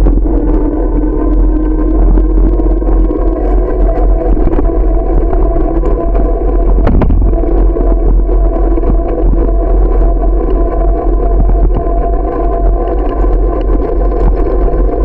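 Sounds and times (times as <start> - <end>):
bicycle rolling rumble: 0.0 - 15.0
faint steady hum: 0.0 - 15.0.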